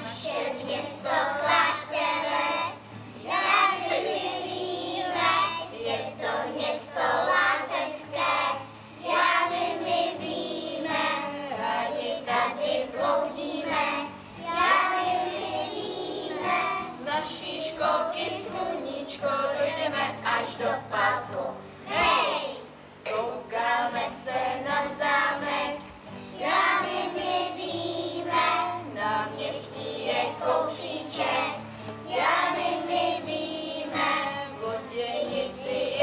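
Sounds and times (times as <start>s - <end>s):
acoustic guitar: 0.0s - 36.0s
children singing together: 0.0s - 36.0s.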